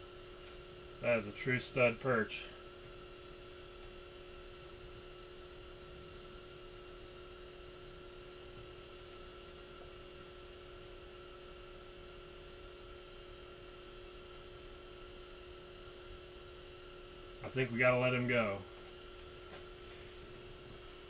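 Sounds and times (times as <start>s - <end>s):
electrical device humming: 0.0s - 21.0s.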